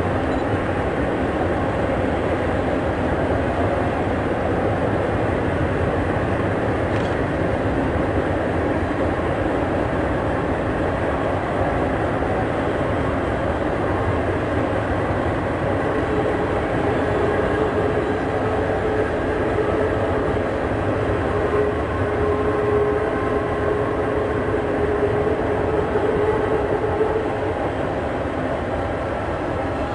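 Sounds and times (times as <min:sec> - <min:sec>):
steady whine: 0:00.0 - 0:29.9
train rumbling on rails: 0:00.0 - 0:29.9.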